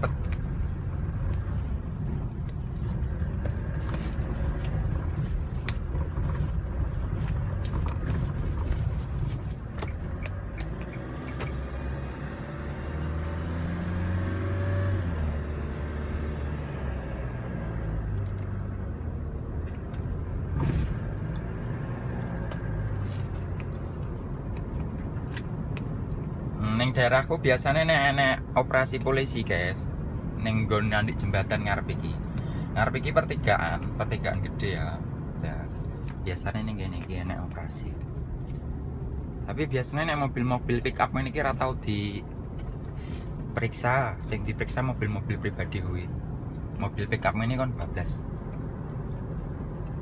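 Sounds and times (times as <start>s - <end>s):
truck engine and road noise: 0.0s - 50.0s.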